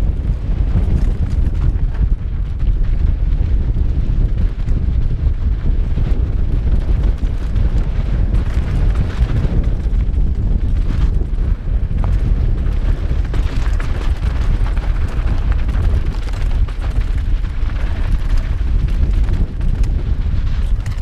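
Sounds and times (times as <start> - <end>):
stones and bike clicking: 0.0 - 21.0
wind buffeting microphone: 0.0 - 21.0.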